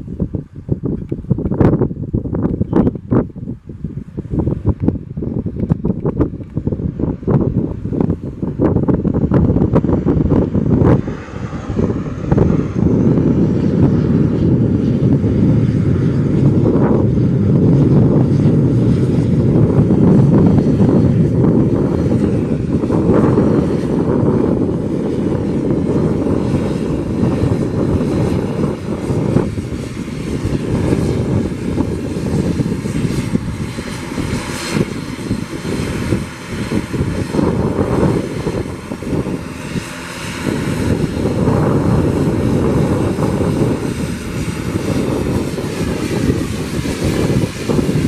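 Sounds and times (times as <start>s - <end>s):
turboprop engines droning: 0.0s - 48.0s.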